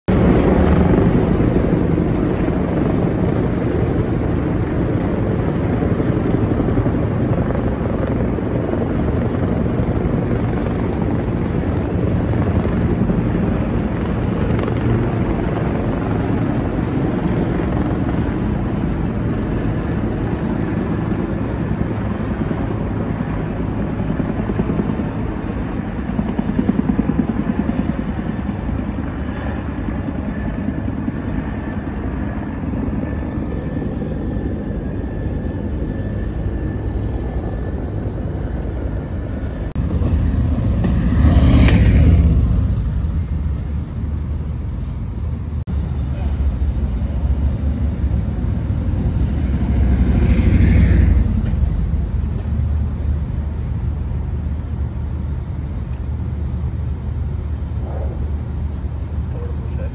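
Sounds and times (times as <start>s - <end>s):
helicopter rotors chopping: 0.1s - 59.9s.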